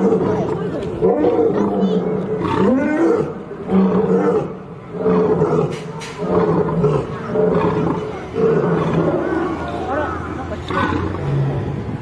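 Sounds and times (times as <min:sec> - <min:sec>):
lion growling and roaring: 0:00.0 - 0:12.0.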